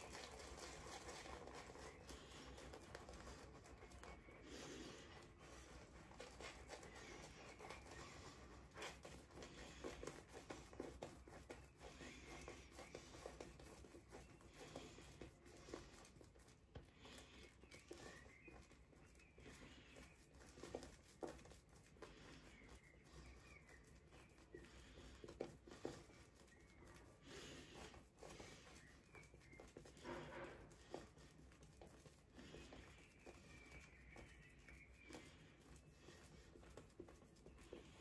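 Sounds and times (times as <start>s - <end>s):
shaving brush swishing lather: 0.0s - 38.0s.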